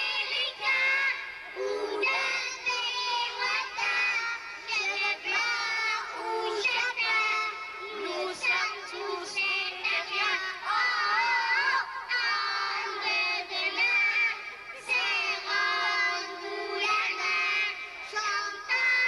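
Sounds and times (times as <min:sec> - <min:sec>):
children singing into microphones: 0:00.0 - 0:19.0.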